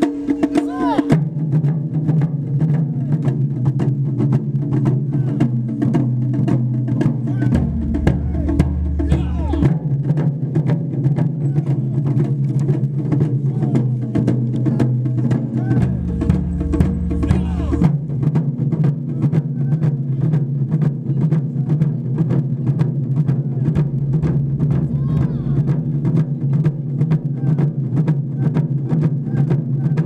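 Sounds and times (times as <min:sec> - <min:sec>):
taiko drum ensemble: 0:00.0 - 0:30.0
deep bass drum: 0:03.5 - 0:30.0.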